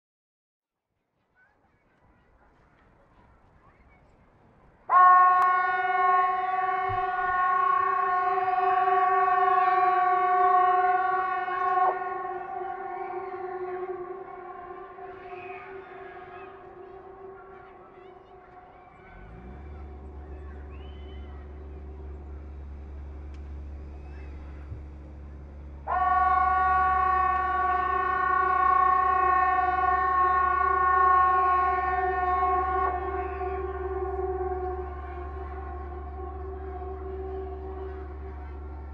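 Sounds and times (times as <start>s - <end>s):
steady siren tone: 4.9s - 38.9s.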